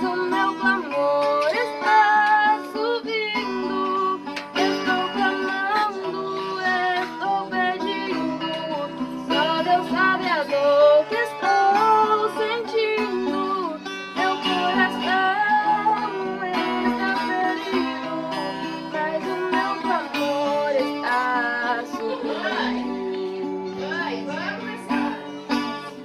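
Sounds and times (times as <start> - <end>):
person singing worship song: 0.0 - 24.0
plucked and strummed guitar: 0.0 - 26.0.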